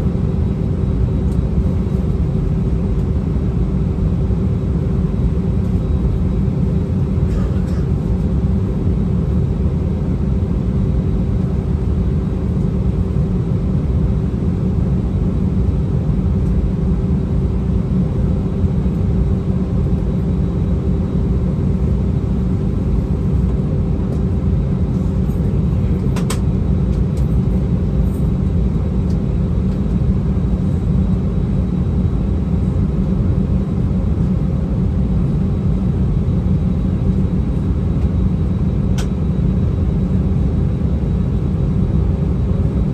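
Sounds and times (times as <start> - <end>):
aircraft cabin low rumble: 0.0 - 42.9.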